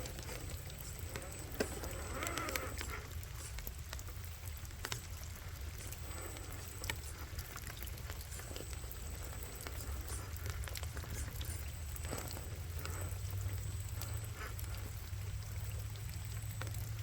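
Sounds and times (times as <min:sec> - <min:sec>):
low steady rumble: 0:00.0 - 0:17.0
small clicks and crackles: 0:00.0 - 0:17.0.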